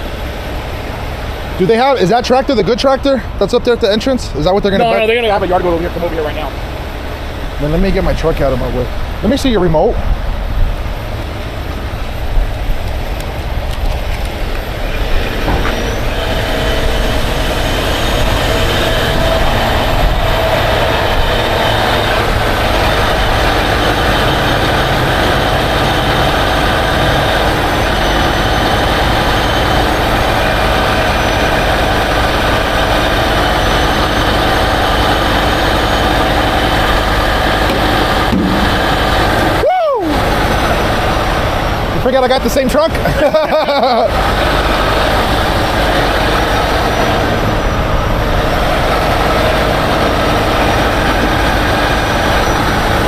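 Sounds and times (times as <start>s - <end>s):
diesel engine running: 0.0s - 53.0s
hydraulic whine: 0.0s - 53.0s.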